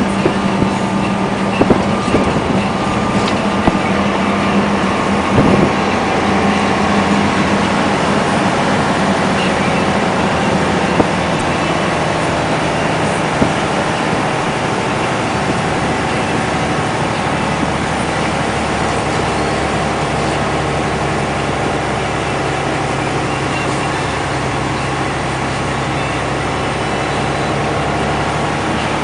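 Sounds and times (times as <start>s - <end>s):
diesel truck engine droning: 0.0s - 29.0s.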